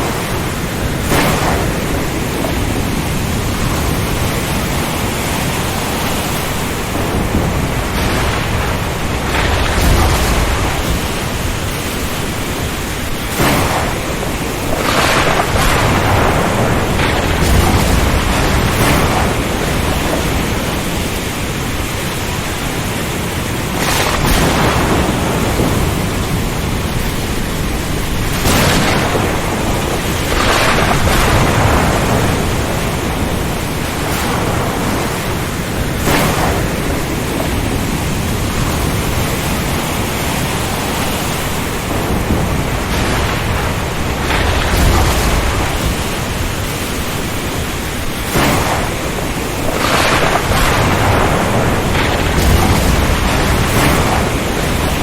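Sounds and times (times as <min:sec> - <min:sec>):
rain and wind rushing: 0:00.0 - 0:55.0
thunder rumbles: 0:00.0 - 0:55.0.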